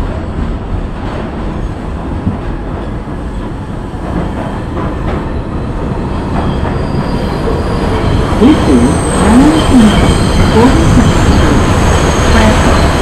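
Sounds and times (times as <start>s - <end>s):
train rumbling in tunnel: 0.0s - 13.0s.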